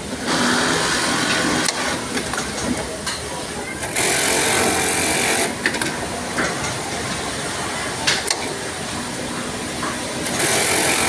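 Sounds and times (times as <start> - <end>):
sewing machine whirring: 0.0 - 2.4, 3.7 - 11.0
industrial sewing machine hum: 0.0 - 11.0.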